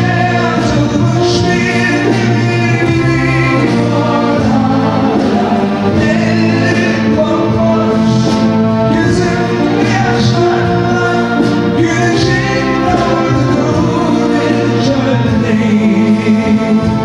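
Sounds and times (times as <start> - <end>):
man singing into a microphone: 0.0 - 17.0
orchestra with sustained strings: 0.0 - 17.0.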